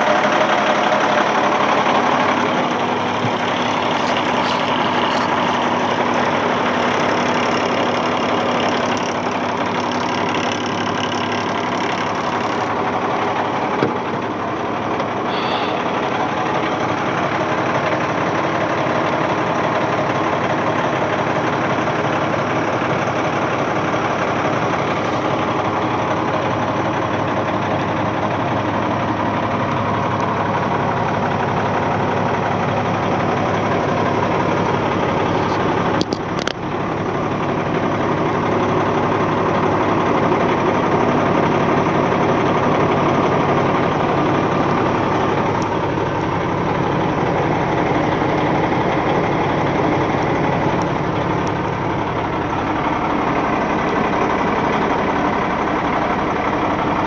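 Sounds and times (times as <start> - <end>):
diesel truck idling: 0.0 - 57.0.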